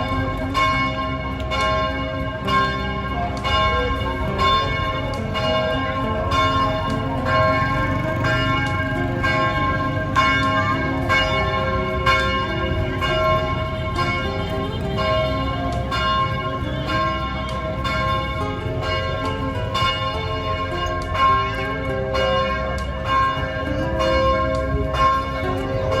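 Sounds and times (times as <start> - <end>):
church bells ringing: 0.0 - 26.0.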